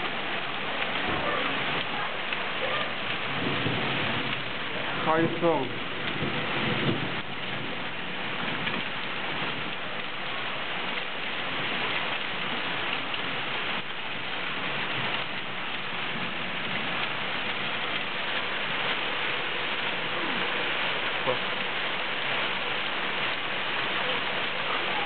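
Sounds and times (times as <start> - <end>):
heavy rain and hail on cars: 0.0 - 25.0.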